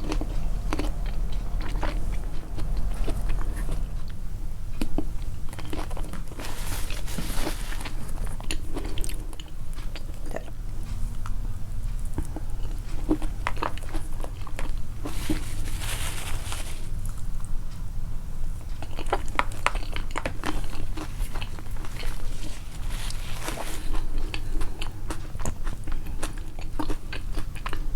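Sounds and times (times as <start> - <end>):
person chewing crunchy food: 0.0 - 4.2, 4.8 - 10.6, 12.1 - 17.2, 18.6 - 27.9.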